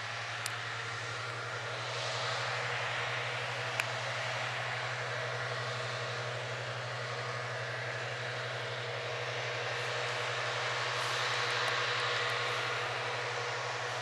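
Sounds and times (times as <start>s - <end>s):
mowers cutting grass: 0.0s - 14.0s
tractor diesel engine under load: 0.0s - 14.0s.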